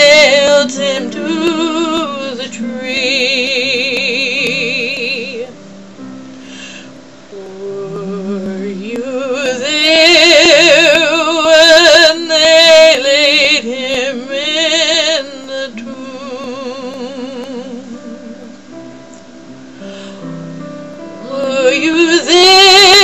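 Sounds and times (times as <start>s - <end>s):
woman singing with vibrato: 0.0s - 5.6s, 7.3s - 18.7s, 21.2s - 23.0s.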